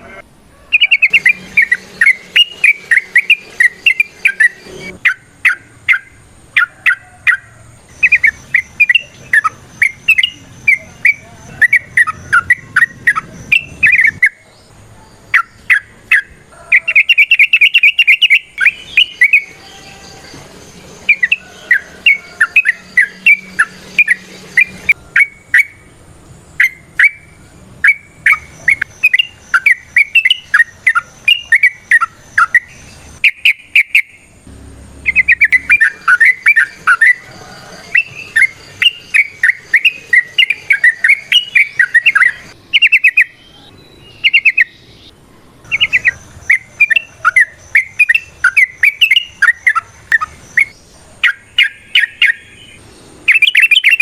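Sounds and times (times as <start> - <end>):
bird singing bubbling chattering notes: 0.7 - 14.4, 15.3 - 19.6, 20.7 - 25.9, 26.6 - 34.2, 35.0 - 43.5, 44.1 - 45.1, 45.7 - 54.0.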